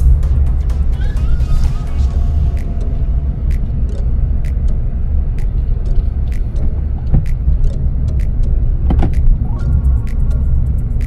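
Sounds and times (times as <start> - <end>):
car engine and road rumble: 0.0 - 11.0
sharp ticks: 2.0 - 11.0.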